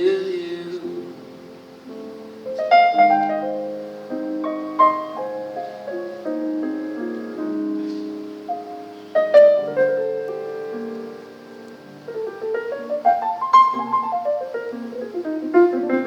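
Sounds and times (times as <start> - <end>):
jazz piano playing: 0.0 - 16.0.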